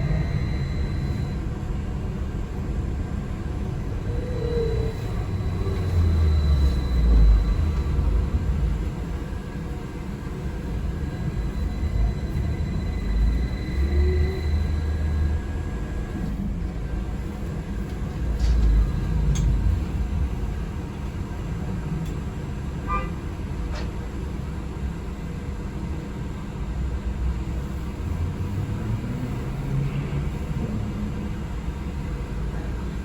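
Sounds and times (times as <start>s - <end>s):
vehicle cabin rumble: 0.0s - 25.1s, 25.9s - 33.0s.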